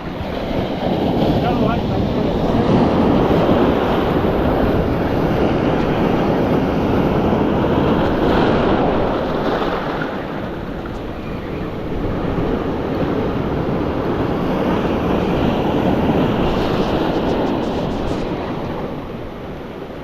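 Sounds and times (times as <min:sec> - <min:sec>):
surf rushing: 0:00.0 - 0:20.0
wind buffeting microphone: 0:00.0 - 0:20.0.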